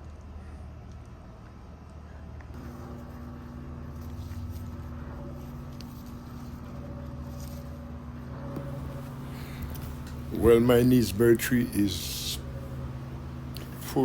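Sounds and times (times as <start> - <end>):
low motor hum with tones: 2.6 - 14.0.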